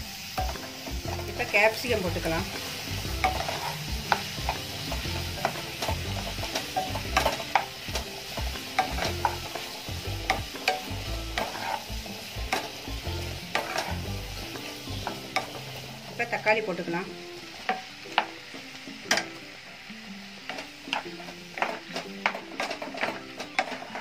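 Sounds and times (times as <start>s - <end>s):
onions sizzling in oil: 0.0s - 24.0s
spatula scraping and tapping pan: 0.4s - 15.8s, 17.5s - 19.5s, 20.4s - 24.0s.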